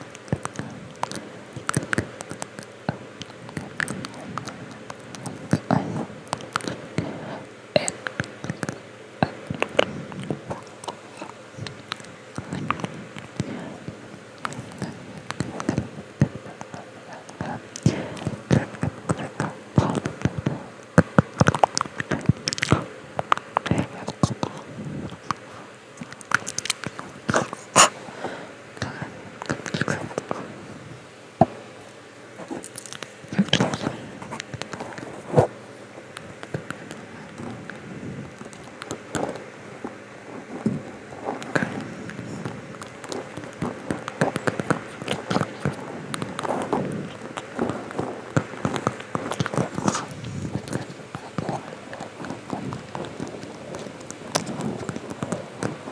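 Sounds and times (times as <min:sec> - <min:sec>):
close whispering: 0:00.0 - 0:55.9
mouth clicks and lip smacks: 0:00.0 - 0:55.9.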